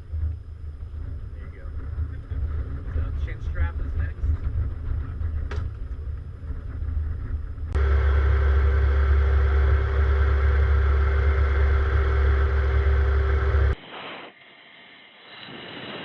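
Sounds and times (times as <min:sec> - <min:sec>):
low hum: 0:00.0 - 0:13.8
jet engine running: 0:00.0 - 0:14.1.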